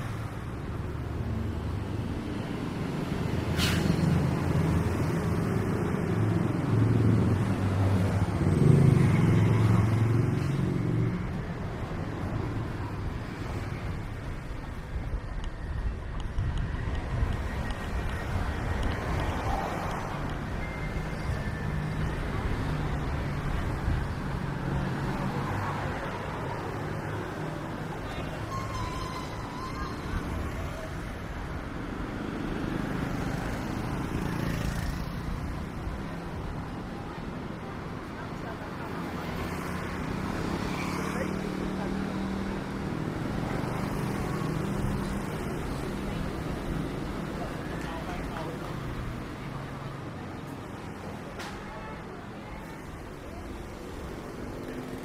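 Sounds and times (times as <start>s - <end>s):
street traffic noise: 0.0s - 55.0s.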